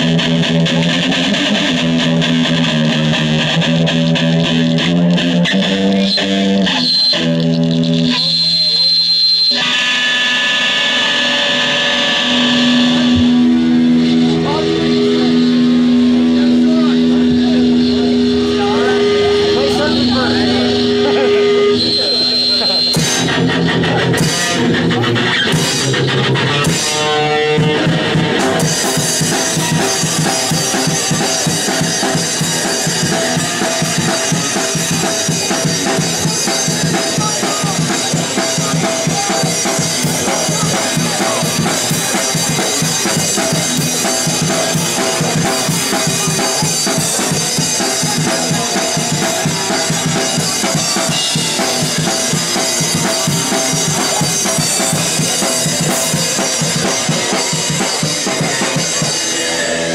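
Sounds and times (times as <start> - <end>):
drums pounding rapidly: 0.0 - 59.9
electric guitar: 0.0 - 59.9
punk band playing live: 0.0 - 59.9.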